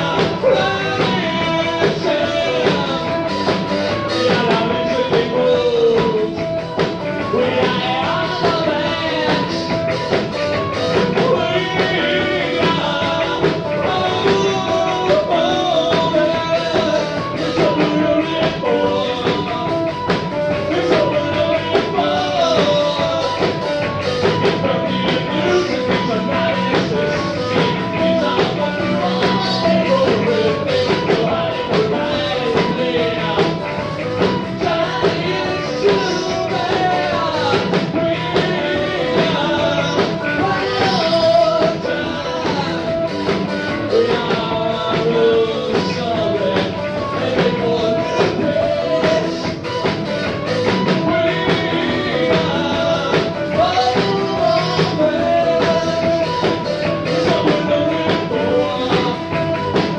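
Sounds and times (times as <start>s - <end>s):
guitar: 0.0s - 59.9s
person singing: 0.0s - 59.9s
rock band playing live: 0.0s - 59.9s.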